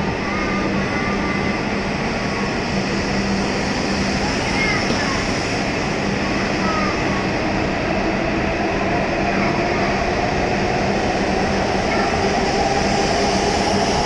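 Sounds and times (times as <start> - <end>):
train hum: 0.0 - 14.0.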